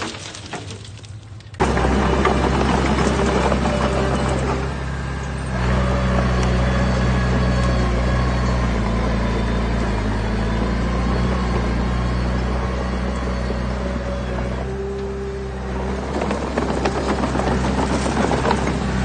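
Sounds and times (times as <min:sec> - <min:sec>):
diesel engine running: 0:01.2 - 0:19.0.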